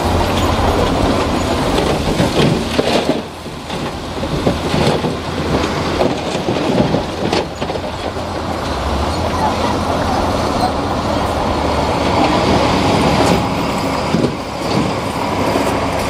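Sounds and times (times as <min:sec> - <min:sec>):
bulldozer diesel engine: 0:00.0 - 0:16.0
steel tracks clanking: 0:00.0 - 0:16.0.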